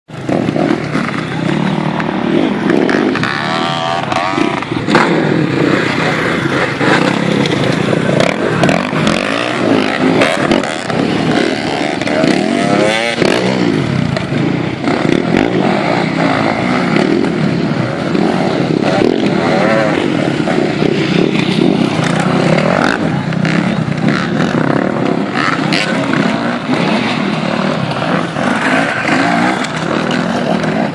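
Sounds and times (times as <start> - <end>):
motocross bike engines revving: 0.1 - 30.9.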